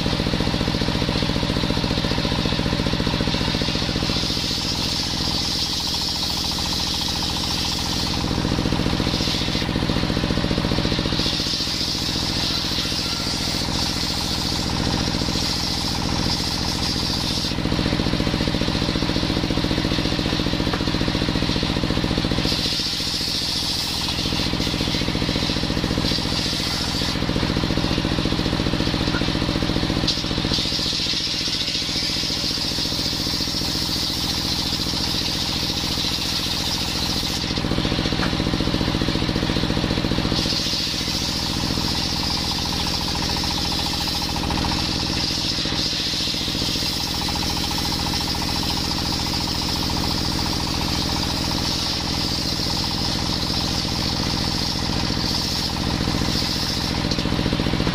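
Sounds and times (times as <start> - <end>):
engine running: 0.0 - 57.9
table saw ripping wood: 0.0 - 57.9.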